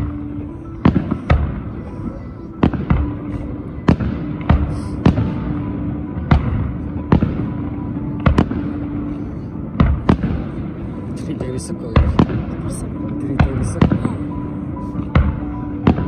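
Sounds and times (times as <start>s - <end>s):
fireworks bursting with sharp bangs: 0.0s - 16.0s.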